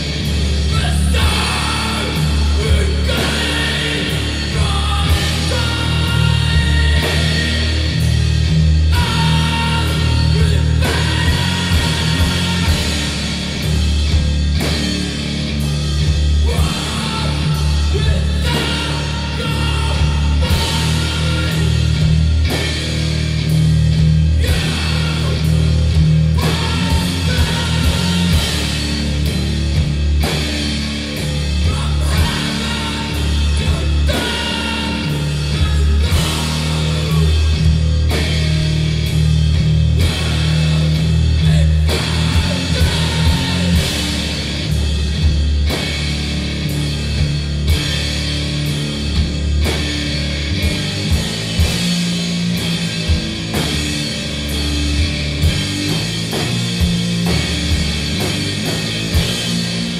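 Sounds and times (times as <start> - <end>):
distorted guitar and bass chords: 0.0 - 59.9.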